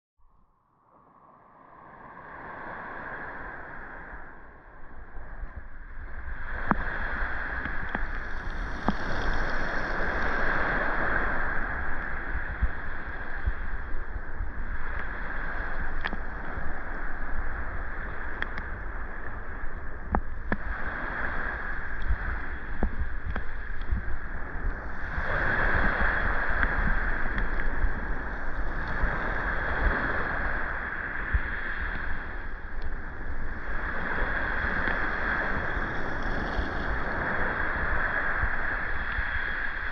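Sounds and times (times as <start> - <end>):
wind rumble on microphone: 0.2 - 39.9
sea waves washing onto beach: 1.8 - 39.9.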